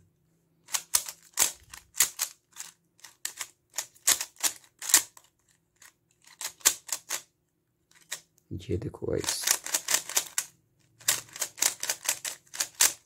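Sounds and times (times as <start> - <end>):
plastic puzzle cube clicking: 0.6 - 7.3, 7.9 - 8.4, 9.2 - 13.0.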